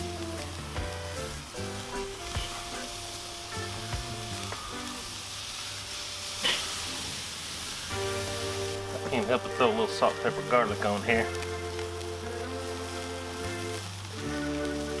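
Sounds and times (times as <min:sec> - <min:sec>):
patties sizzling on a grill: 0:00.0 - 0:15.0.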